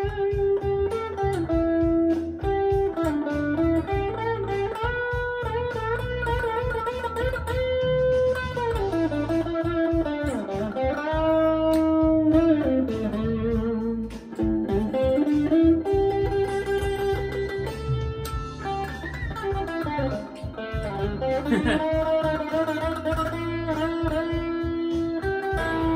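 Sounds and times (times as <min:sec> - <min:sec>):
bass: 0:00.0 - 0:25.9
drums: 0:00.0 - 0:25.9
electric guitar lead: 0:00.0 - 0:25.9.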